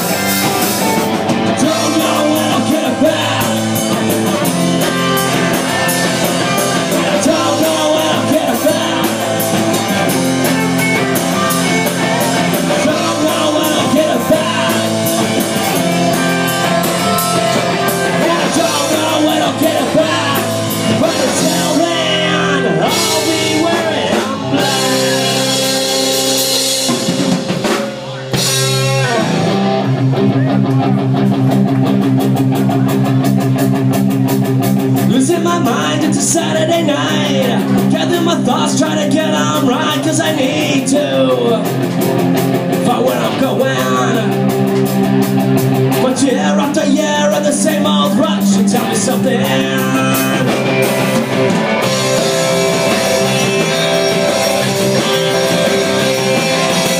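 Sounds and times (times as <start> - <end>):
live rock band playing: 0.0 - 56.9
ringing guitar chords: 0.0 - 56.9.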